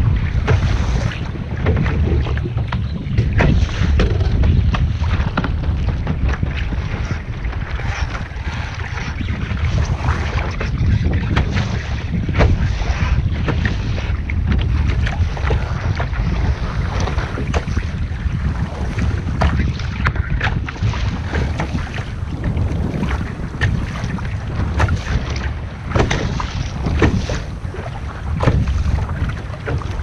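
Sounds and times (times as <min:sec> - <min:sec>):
water splashing against hull: 0:00.0 - 0:30.0
wind buffeting microphone: 0:00.0 - 0:30.0.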